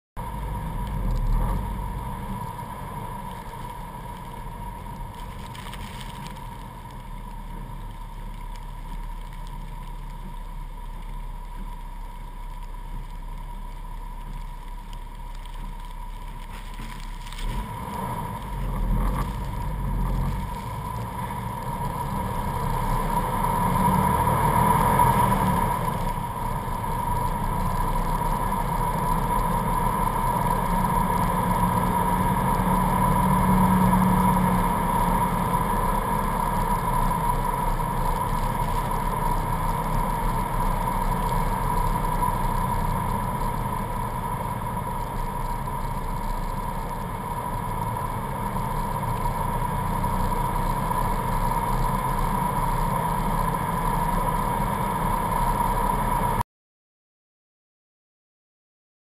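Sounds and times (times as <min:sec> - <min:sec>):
car engine and road noise: 0:00.0 - 0:56.4
faint steady whine: 0:00.2 - 0:56.4.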